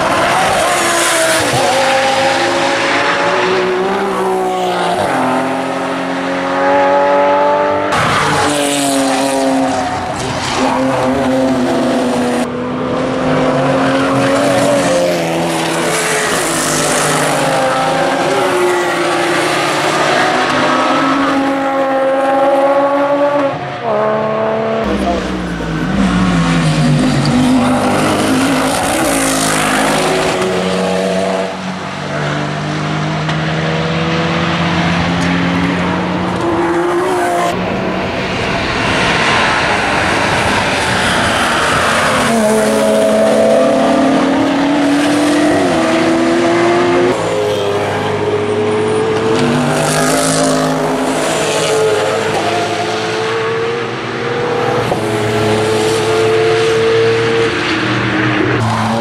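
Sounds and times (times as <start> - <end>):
race cars passing: 0.0 - 59.0.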